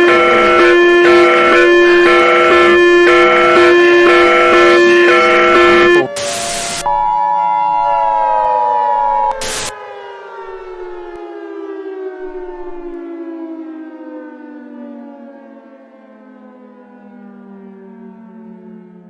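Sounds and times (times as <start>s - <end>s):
siren winding down: 0.0s - 19.0s.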